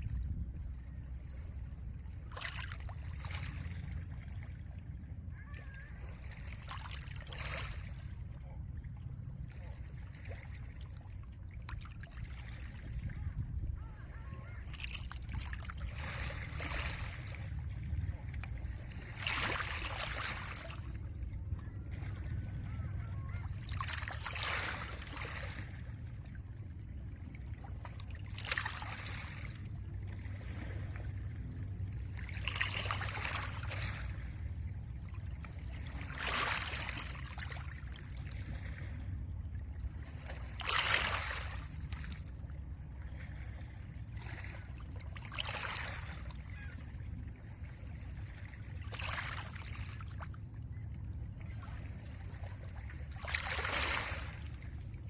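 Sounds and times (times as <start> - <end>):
low rumble of wind: 0.0 - 55.0.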